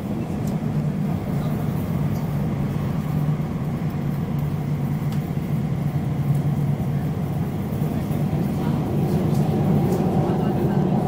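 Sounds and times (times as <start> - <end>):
train rumbling through tunnel: 0.0 - 11.0.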